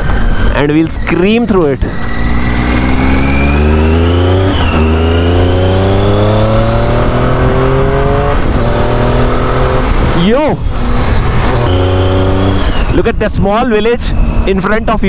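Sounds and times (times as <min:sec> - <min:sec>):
motorcycle engine accelerating: 0:00.0 - 0:14.9
gear upshifts: 0:00.0 - 0:15.0.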